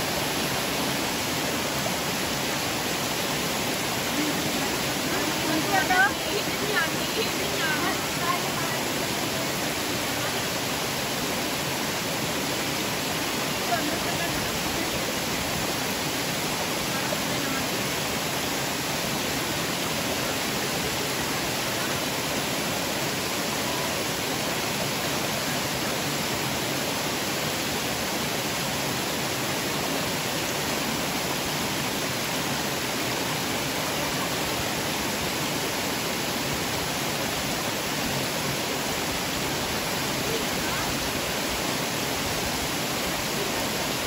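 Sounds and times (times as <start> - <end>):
waterfall rushing over rocks: 0.0 - 44.0.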